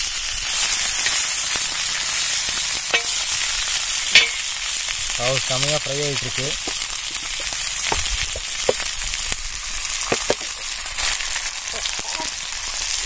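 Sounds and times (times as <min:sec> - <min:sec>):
fish frying in oil: 0:00.0 - 0:13.0
oil popping and crackling: 0:00.0 - 0:13.0.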